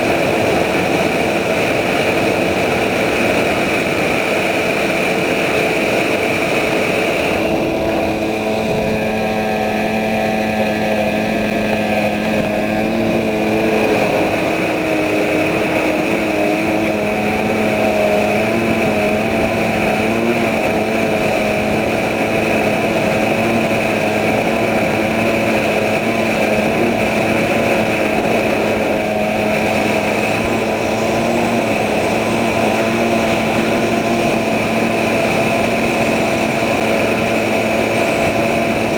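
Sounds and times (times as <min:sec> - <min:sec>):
outboard motor running hard: 0:00.0 - 0:38.9.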